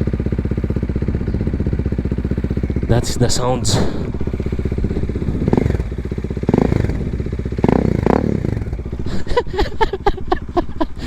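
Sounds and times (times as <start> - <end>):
loud motorcycle engine revving: 0.0 - 9.2.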